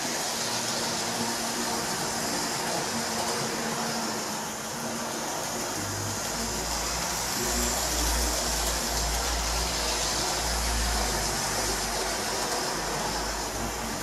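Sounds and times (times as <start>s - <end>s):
model train rumbling: 0.0s - 14.0s
steady hiss: 0.0s - 14.0s.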